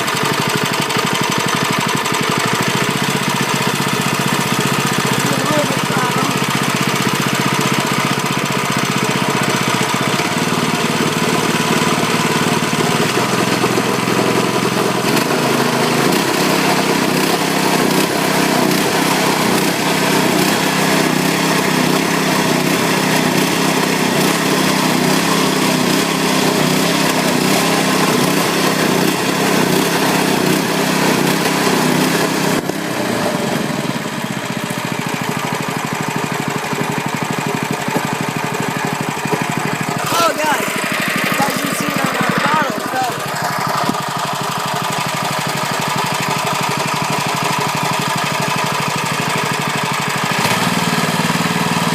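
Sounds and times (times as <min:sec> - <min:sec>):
small engine running: 0:00.0 - 0:51.9.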